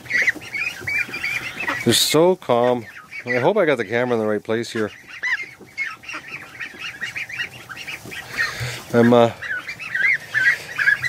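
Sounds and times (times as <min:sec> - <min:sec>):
goose honking: 0:00.0 - 0:11.0
goslings peeping: 0:00.0 - 0:11.0.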